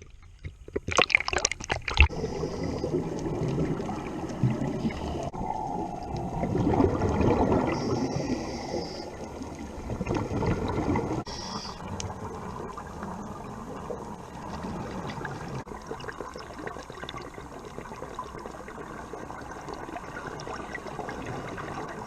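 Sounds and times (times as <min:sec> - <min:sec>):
water rushing and gurgling: 0:00.9 - 0:22.0.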